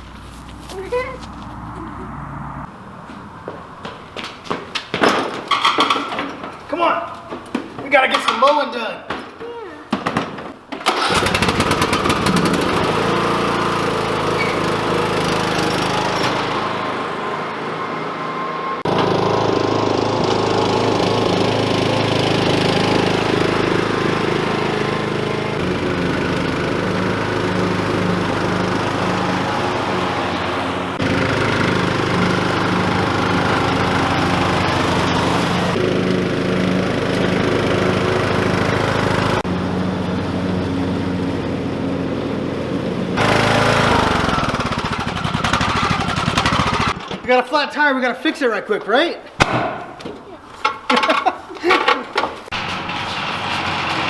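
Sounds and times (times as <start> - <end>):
riding lawn mower engine running: 0.0 - 8.6, 10.0 - 47.3, 49.4 - 54.0.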